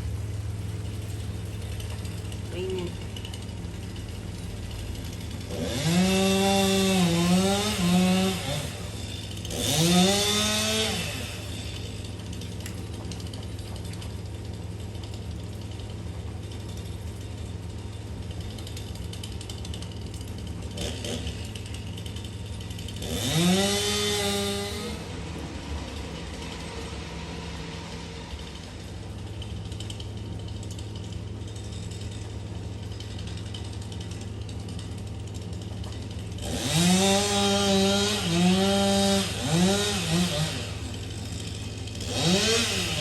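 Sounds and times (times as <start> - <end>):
chainsaw revving and idling: 0.0 - 43.0.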